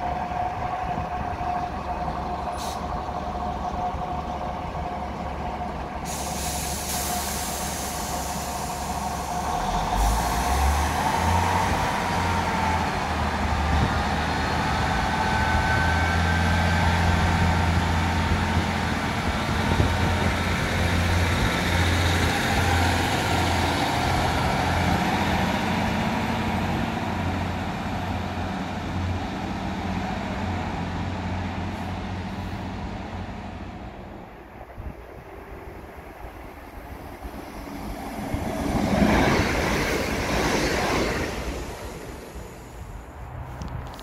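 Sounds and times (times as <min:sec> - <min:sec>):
diesel train engines running: 0:00.0 - 0:44.0.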